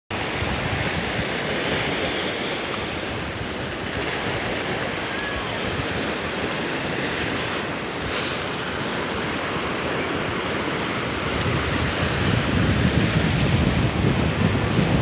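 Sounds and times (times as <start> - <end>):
waves sloshing: 0.1 - 15.0
wind buffeting microphone: 0.1 - 15.0.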